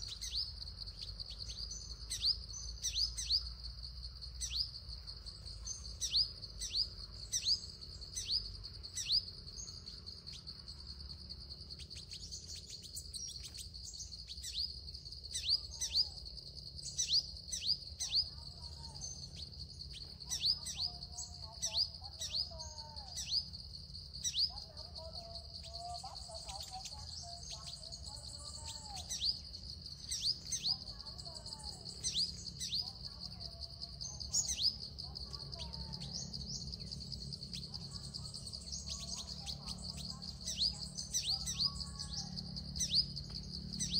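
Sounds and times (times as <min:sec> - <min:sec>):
lower warbling bird calls: 0:00.0 - 0:03.5, 0:05.6 - 0:10.5, 0:11.8 - 0:16.2, 0:16.8 - 0:23.6, 0:24.2 - 0:24.6, 0:25.4 - 0:33.0, 0:34.3 - 0:34.9, 0:35.6 - 0:43.9
sharp bird chirps: 0:00.0 - 0:10.9, 0:11.6 - 0:33.0, 0:33.9 - 0:43.9
high insect drone: 0:00.0 - 0:43.9.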